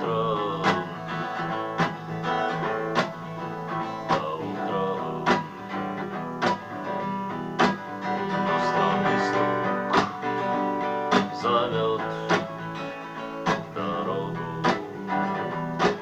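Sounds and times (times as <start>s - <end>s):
strummed guitar chords: 0.0s - 16.0s.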